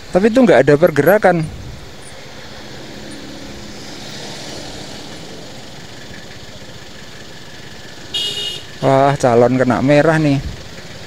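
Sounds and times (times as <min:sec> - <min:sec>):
idling traffic noise: 0:00.0 - 0:11.0.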